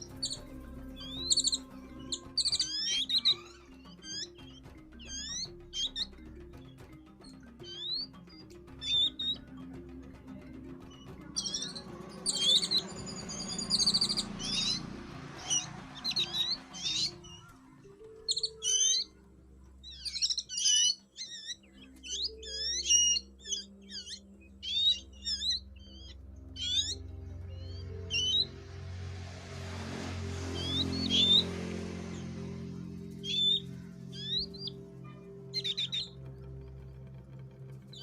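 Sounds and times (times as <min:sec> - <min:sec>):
birds chirping: 0:00.0 - 0:38.0
soft background music: 0:00.0 - 0:38.0.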